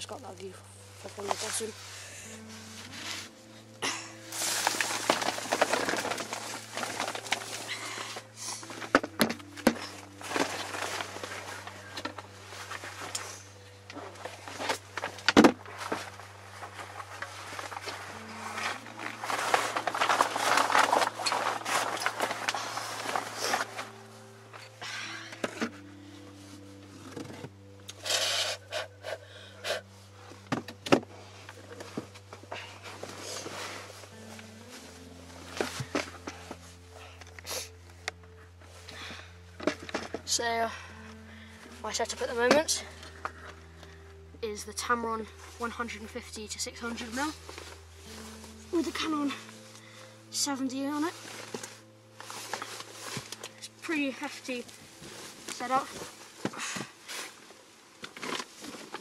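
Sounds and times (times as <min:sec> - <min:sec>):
jacket rustling: 0:00.0 - 0:59.0.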